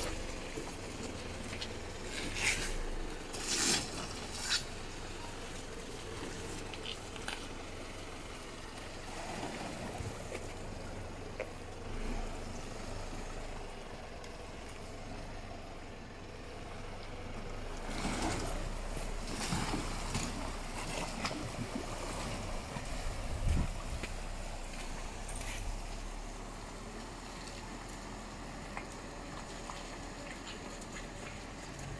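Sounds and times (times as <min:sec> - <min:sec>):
truck engine running at low revs: 0:00.0 - 0:31.9
water sloshing and splashing: 0:00.0 - 0:31.9.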